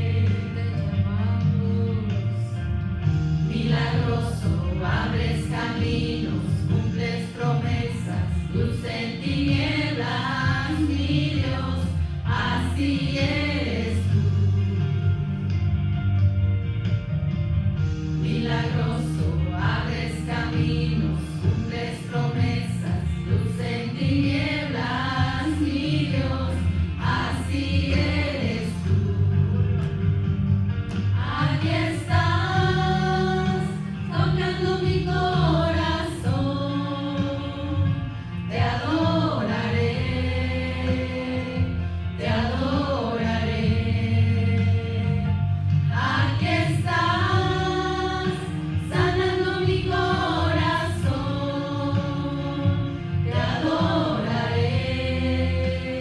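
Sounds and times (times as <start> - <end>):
women singing a worship song: 0.0 - 2.7, 3.3 - 15.2, 18.2 - 29.9, 31.0 - 56.0
low musical accompaniment: 0.0 - 56.0.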